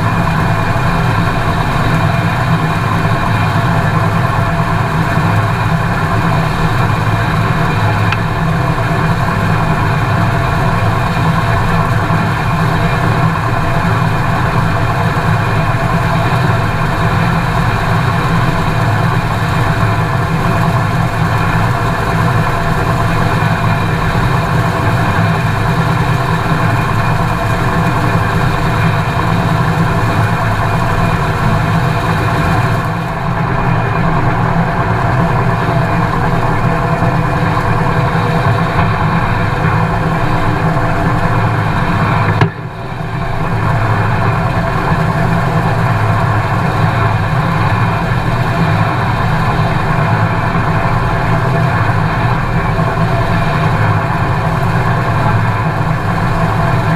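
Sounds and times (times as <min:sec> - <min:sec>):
combine harvester running: 0:00.0 - 0:56.9.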